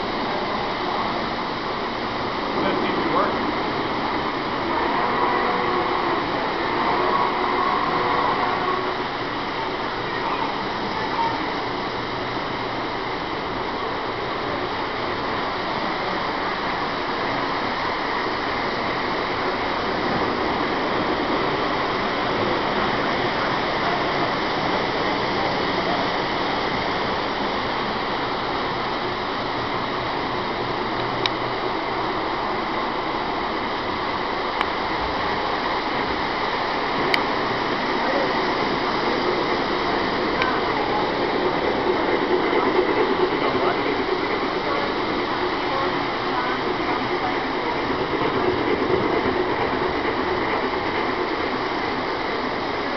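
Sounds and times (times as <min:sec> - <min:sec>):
model trains whirring on track: 0:00.0 - 0:52.9.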